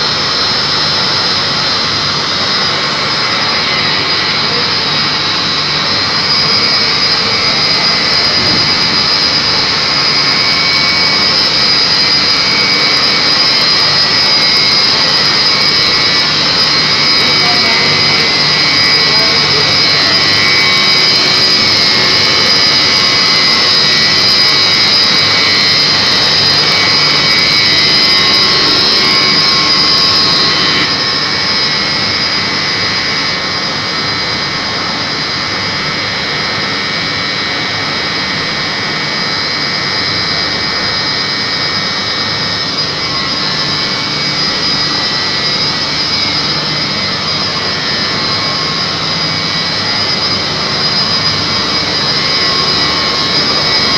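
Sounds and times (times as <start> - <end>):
electric pump motors whining: 0.0 - 53.9.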